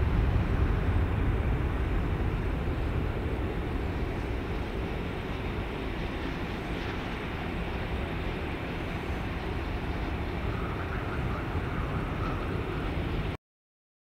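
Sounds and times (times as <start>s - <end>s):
jet engines rumbling at takeoff: 0.0s - 13.4s.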